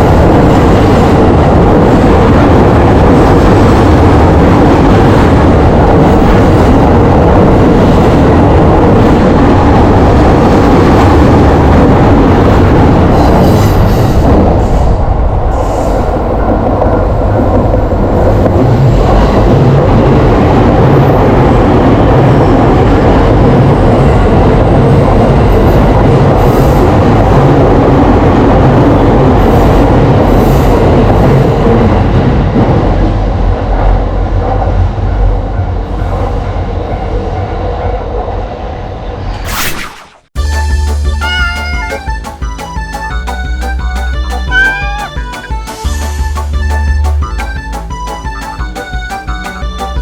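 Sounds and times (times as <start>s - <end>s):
train running: 0.0s - 39.4s, 40.4s - 50.0s.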